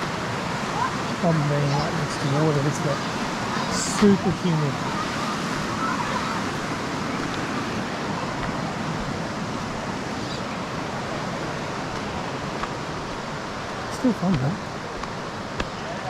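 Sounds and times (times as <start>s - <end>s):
water rushing from waterfall: 0.0s - 16.0s.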